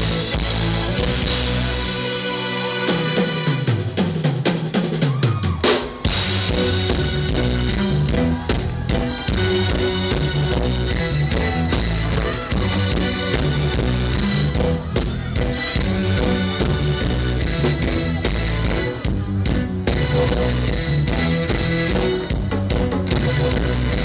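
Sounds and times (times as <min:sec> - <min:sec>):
live band playing groove: 0:00.0 - 0:24.0.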